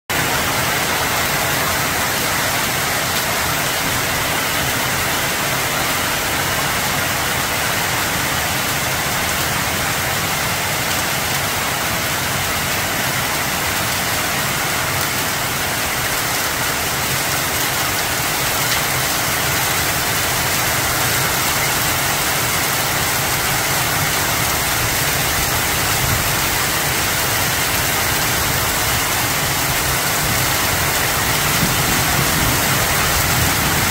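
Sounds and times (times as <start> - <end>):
hail and heavy rain pelting: 0.1 - 33.9.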